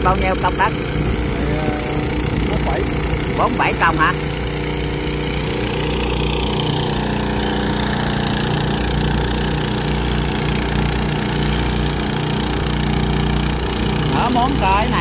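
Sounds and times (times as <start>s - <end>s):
small generator engine running: 0.0s - 15.0s.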